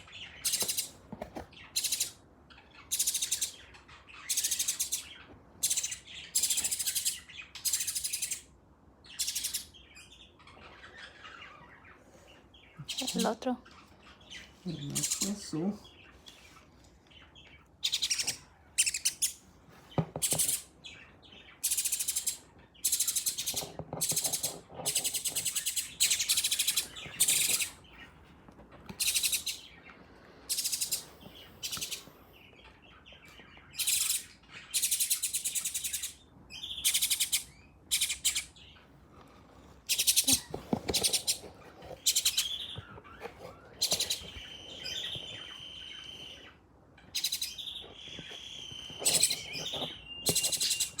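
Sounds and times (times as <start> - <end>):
birds chirping high-pitched calls: 0.0 - 28.2, 28.9 - 39.0, 39.8 - 51.0.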